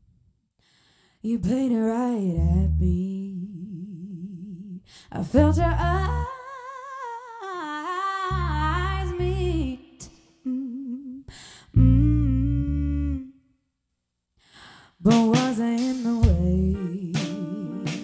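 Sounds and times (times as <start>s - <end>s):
singer with vibrato: 1.3s - 13.4s, 15.0s - 18.0s.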